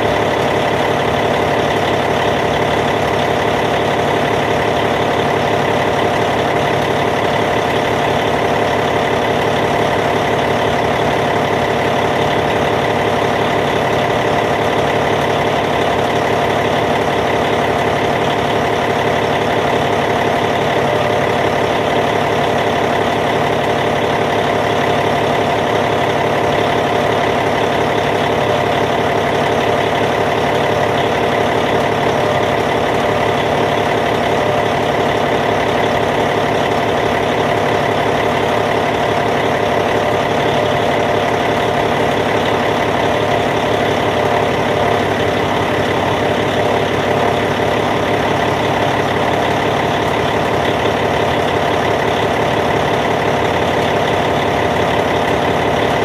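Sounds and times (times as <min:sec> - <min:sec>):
diesel bulldozer engine idling: 0:00.0 - 0:56.0.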